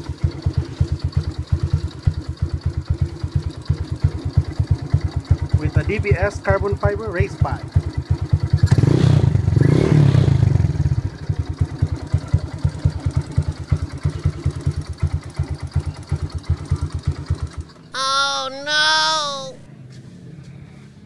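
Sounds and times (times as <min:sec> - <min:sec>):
motorcycle engine revving and idling: 0:00.0 - 0:17.9.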